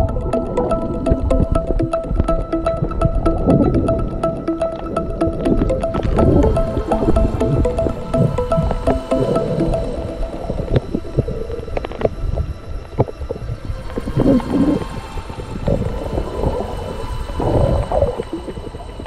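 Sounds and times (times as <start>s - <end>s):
underwater clicks and crackles: 0.0s - 19.0s.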